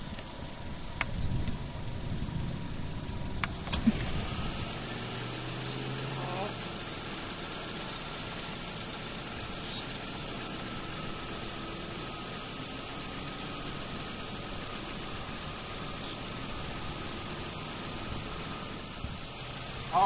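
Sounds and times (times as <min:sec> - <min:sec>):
vehicle engine idling: 0:00.0 - 0:20.0
wind: 0:00.0 - 0:20.0.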